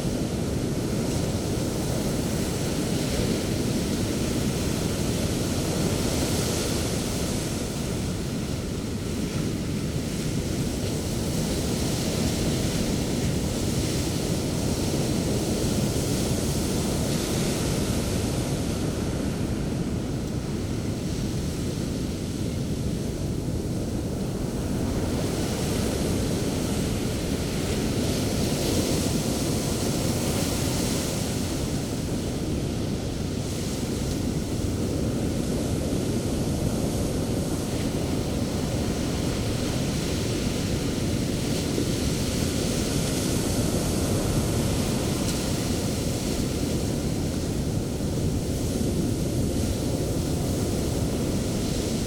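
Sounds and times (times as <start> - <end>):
sea waves breaking on beach: 0.0 - 52.0
wind on microphone: 0.0 - 52.0.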